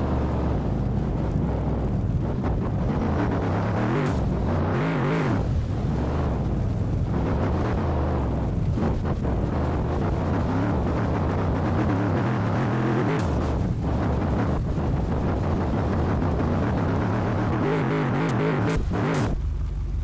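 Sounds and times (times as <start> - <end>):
engine revving under load: 0.0 - 19.4.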